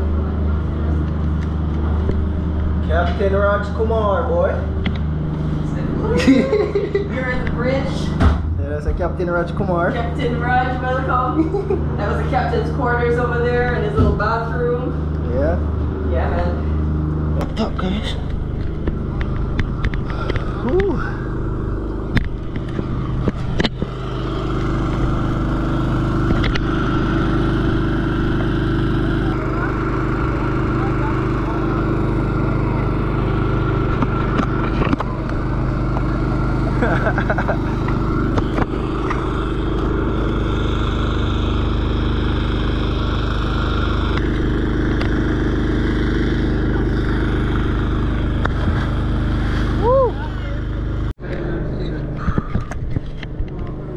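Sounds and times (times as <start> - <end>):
motor droning: 0.0 - 53.9
engine idling: 7.0 - 51.4.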